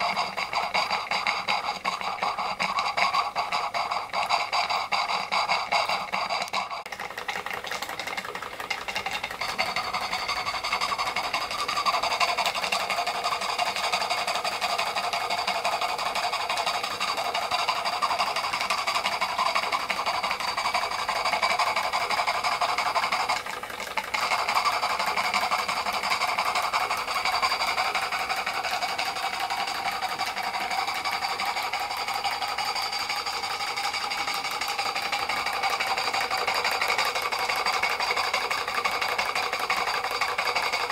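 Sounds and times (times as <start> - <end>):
model steam engine clattering: 0.0 - 40.9.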